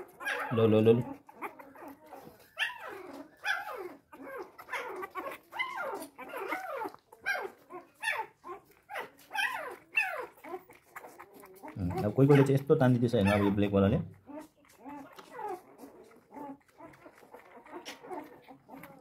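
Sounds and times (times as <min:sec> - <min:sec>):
puppies squealing and whining: 0:00.0 - 0:19.0.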